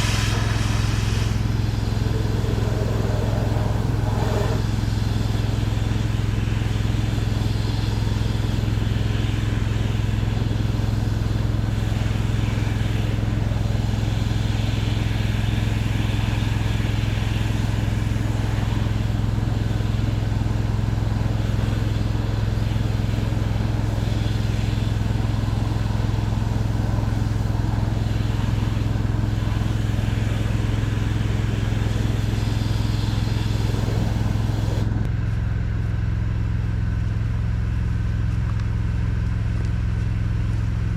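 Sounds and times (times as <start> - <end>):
water spray hiss: 0.0 - 35.0
pressure washer engine running: 0.0 - 40.9.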